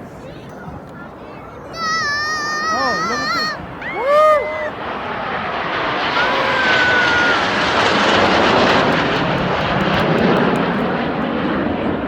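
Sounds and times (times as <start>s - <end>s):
jet aircraft roar: 0.0s - 12.0s.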